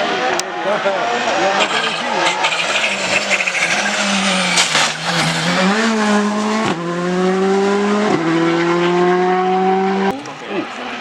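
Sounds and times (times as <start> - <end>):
rally car engine at high revs: 0.8 - 10.2.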